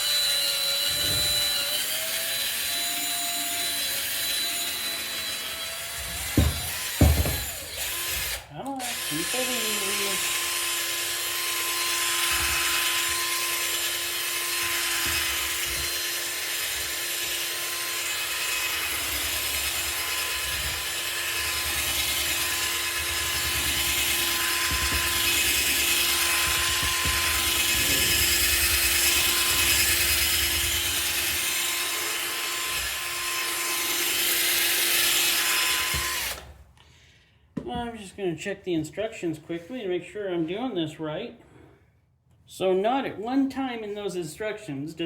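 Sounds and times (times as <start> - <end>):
electric drill whining: 0.0 - 36.6.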